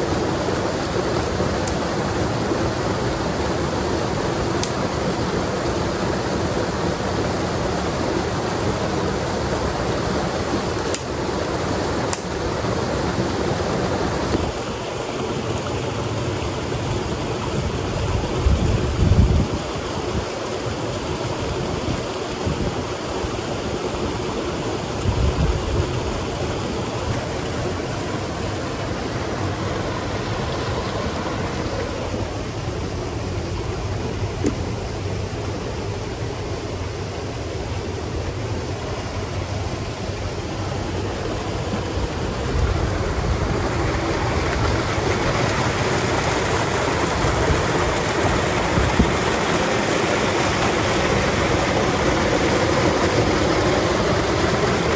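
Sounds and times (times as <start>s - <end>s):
waterfall and stream rushing: 0.0s - 54.9s.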